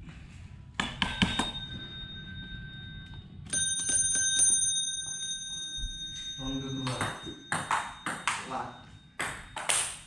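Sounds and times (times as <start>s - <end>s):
high bell-like ringing: 0.9s - 10.0s.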